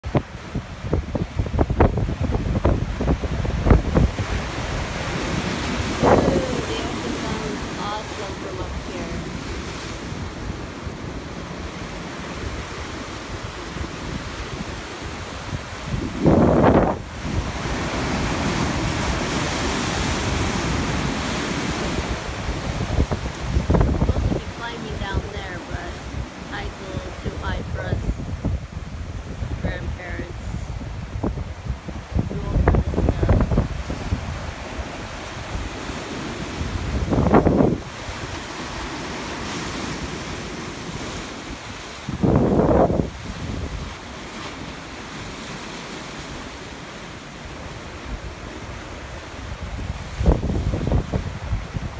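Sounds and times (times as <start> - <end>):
ocean surf breaking on rocks: 0.0 - 51.9
wind gusts on microphone: 0.0 - 51.9.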